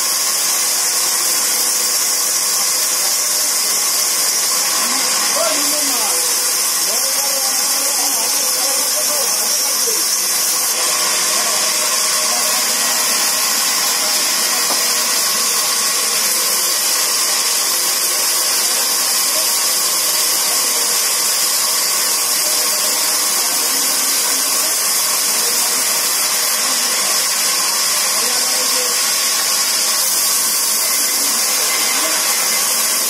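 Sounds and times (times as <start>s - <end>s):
band saw cutting through log: 0.0s - 33.0s.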